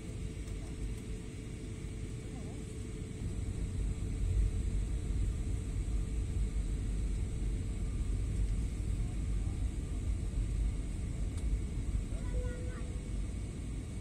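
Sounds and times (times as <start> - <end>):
jet engine and airflow rumble: 0.0 - 14.0.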